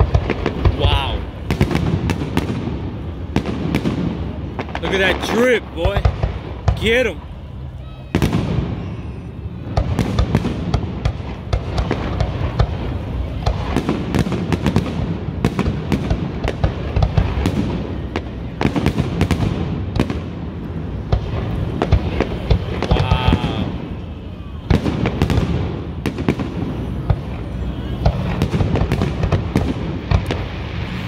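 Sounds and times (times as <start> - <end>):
fireworks bangs and crackling: 0.0 - 31.0
low fireworks booms: 0.0 - 31.0.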